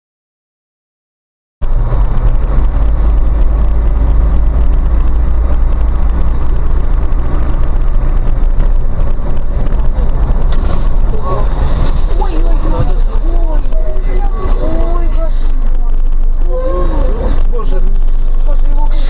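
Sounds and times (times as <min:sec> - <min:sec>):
moving car rumble: 0:01.6 - 0:19.0.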